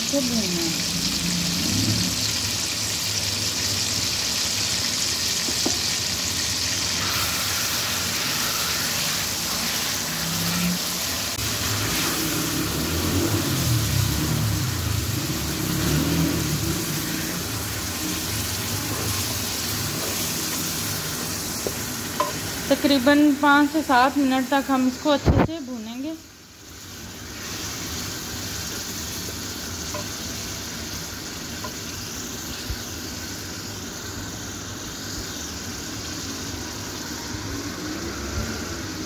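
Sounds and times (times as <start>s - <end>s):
meat sizzling in hot oil: 0.0s - 39.0s.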